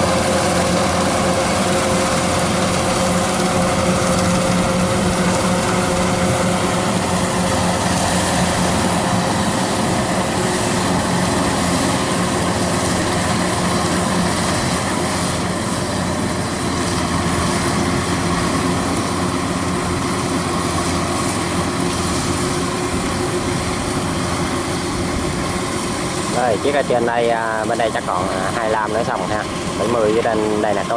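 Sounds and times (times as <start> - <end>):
cutting and threshing machinery: 0.0 - 30.9
diesel engine drone: 0.0 - 30.9.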